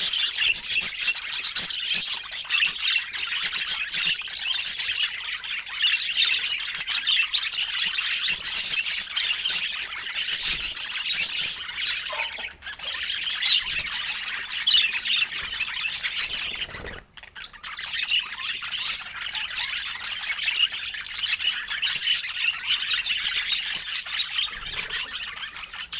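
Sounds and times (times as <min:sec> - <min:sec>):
budgerigars chattering and warbling: 0:00.0 - 0:25.9.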